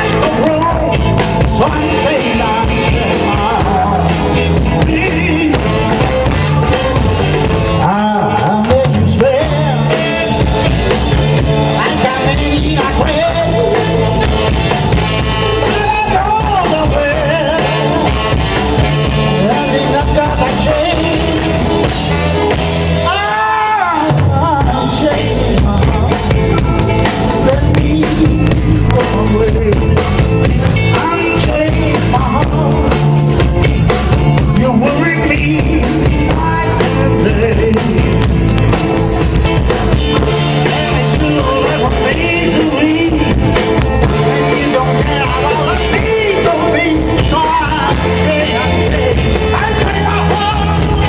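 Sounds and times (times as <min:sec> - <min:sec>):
live rock band playing: 0:00.0 - 0:51.0.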